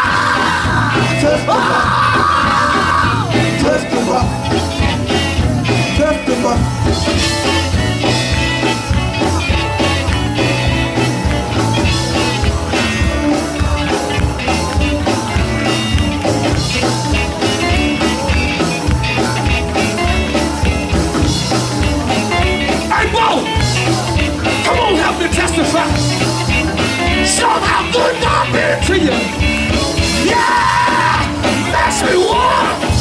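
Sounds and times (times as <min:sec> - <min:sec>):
bass guitar: 0:00.0 - 0:33.0
drum kit beat: 0:00.0 - 0:33.0
electric guitar: 0:00.0 - 0:33.0
live gospel band playing: 0:00.0 - 0:33.0.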